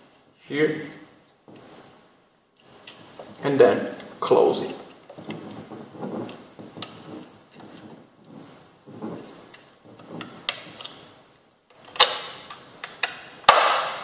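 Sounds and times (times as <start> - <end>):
soft rubbing: 0.0 - 11.4.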